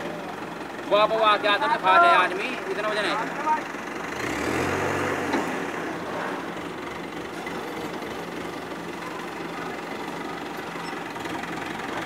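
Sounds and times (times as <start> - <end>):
diesel engine humming: 0.0 - 12.0
yard noise: 0.0 - 12.0.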